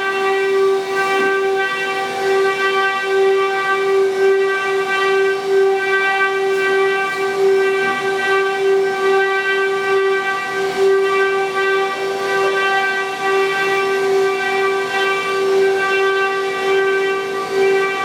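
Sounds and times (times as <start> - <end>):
cnc router spindles whining: 0.0 - 18.0.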